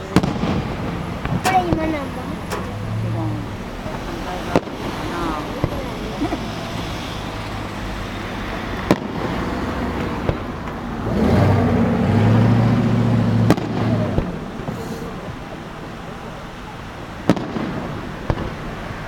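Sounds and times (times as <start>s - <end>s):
fireworks booms: 0.0s - 7.1s, 8.5s - 16.0s, 17.2s - 19.0s
continuous rumble: 0.0s - 19.0s.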